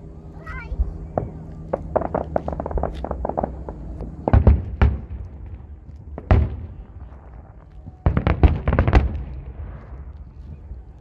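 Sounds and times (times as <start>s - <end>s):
fireworks booming: 0.6s - 10.9s.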